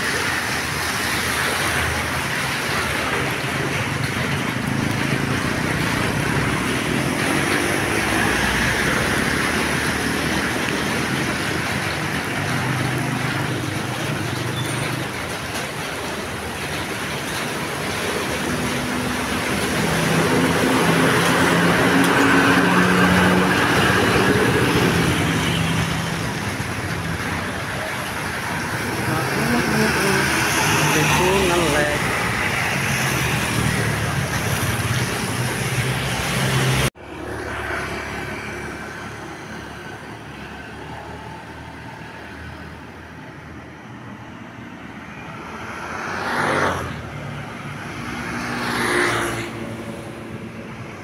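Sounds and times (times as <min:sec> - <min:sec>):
bus engine passing: 0:02.0 - 0:43.3.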